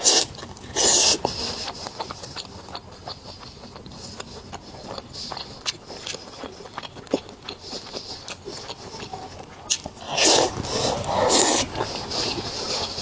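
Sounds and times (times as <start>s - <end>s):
chewing clicks: 0.0s - 13.0s.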